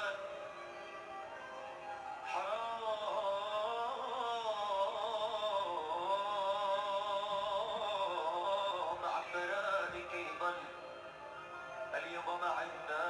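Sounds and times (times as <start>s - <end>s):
man singing ornamented vocal lines: 0.0s - 13.0s.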